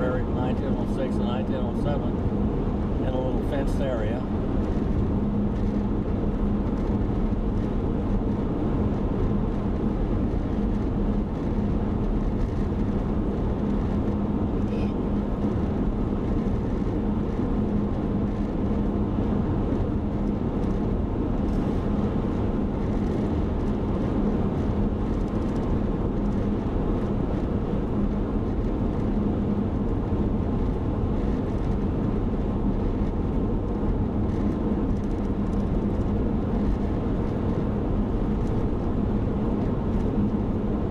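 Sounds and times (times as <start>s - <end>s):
car cabin engine and tyre noise: 0.0s - 40.9s.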